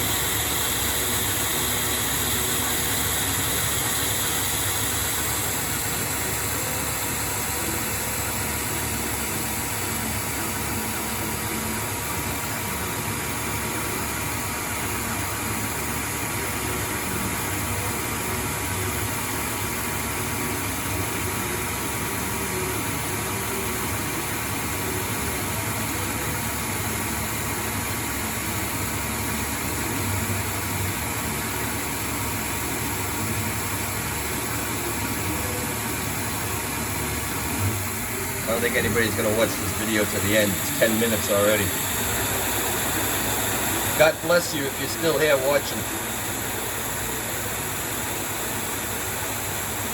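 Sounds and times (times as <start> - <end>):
lathe cutting steel: 0.0 - 49.9.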